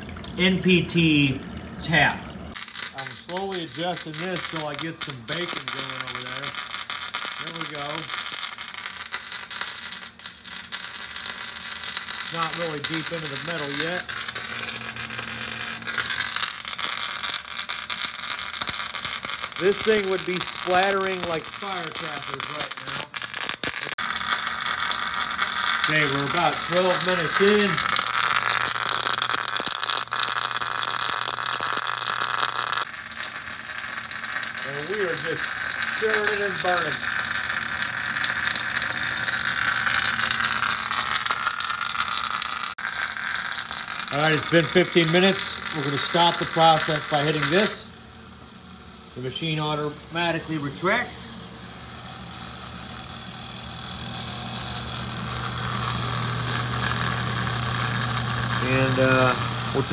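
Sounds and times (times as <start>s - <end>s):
water pump electric hum: 0.0s - 59.9s
spark erosion crackle: 2.5s - 59.9s.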